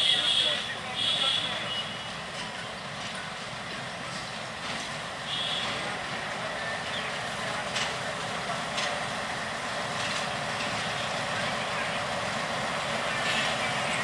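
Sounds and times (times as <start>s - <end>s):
diesel locomotive engine: 0.0s - 14.0s.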